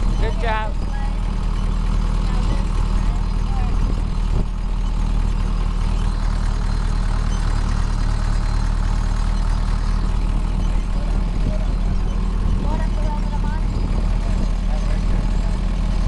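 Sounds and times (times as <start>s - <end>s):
tractor engine droning: 0.0s - 16.0s.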